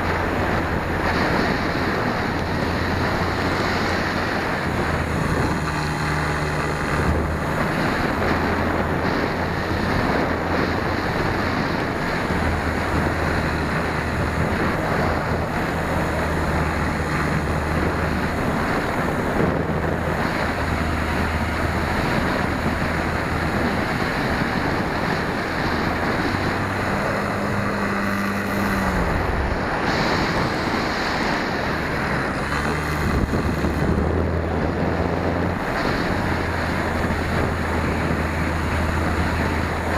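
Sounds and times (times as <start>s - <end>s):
electric motor and propeller drone: 0.0s - 39.9s
wind rushing over microphone: 0.0s - 39.9s.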